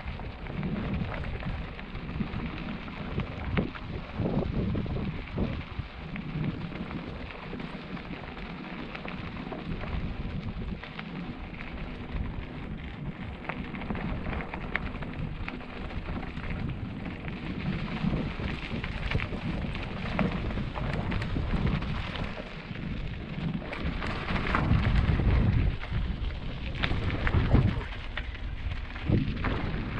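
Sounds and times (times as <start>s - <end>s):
bike tyres crunching on gravel: 0.0s - 29.9s.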